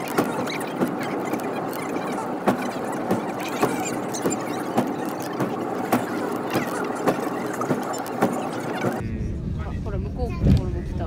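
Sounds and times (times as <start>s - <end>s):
funicular car rattling: 0.0s - 9.0s.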